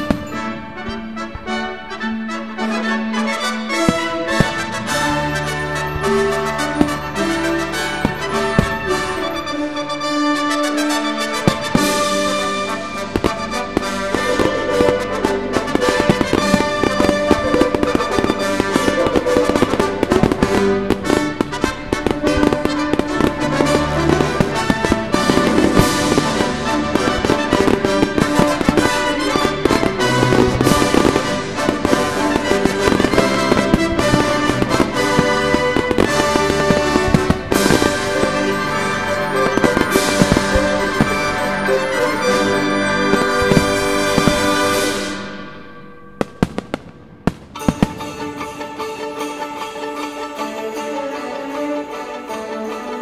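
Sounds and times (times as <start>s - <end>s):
loud music: 0.0s - 45.7s
fireworks bangs and crackles: 0.0s - 50.2s.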